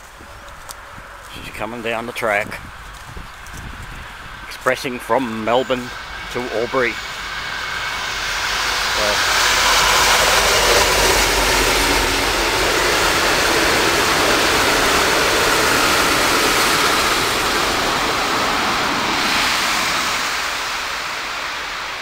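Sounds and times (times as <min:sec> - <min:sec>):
passenger train passing at speed: 0:02.3 - 0:22.0.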